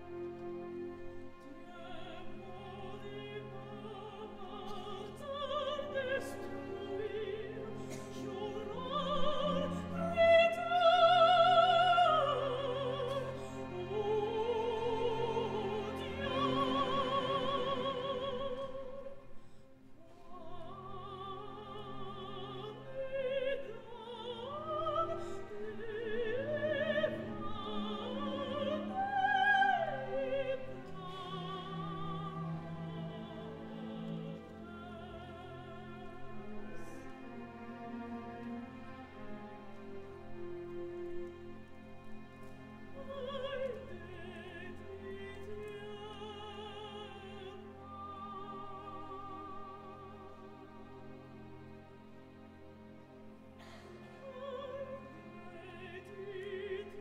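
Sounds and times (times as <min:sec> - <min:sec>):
soprano singing with vibrato: 0:01.3 - 0:19.4, 0:20.0 - 0:37.2, 0:42.8 - 0:51.1, 0:54.0 - 0:57.0.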